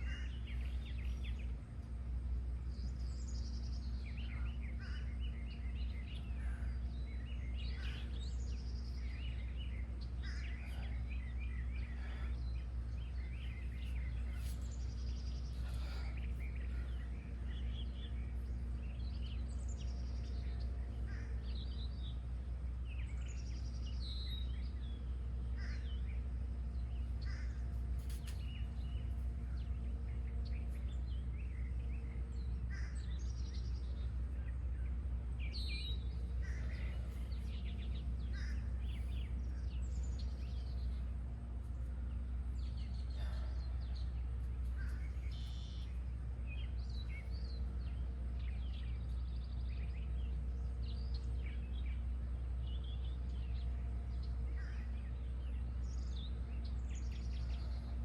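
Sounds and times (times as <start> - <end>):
steady low rumble: 0.0 - 58.0
wild birds chirping: 0.0 - 58.0.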